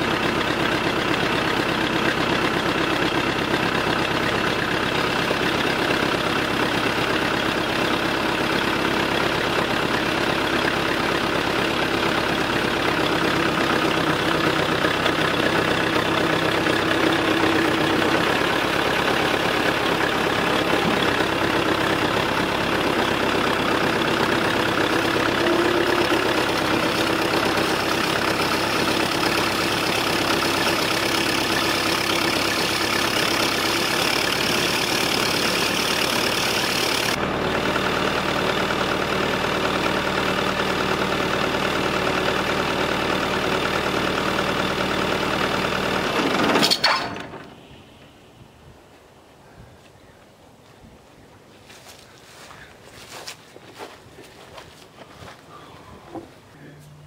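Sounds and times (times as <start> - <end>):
backhoe engine idling: 0.0 - 48.3, 51.8 - 57.0.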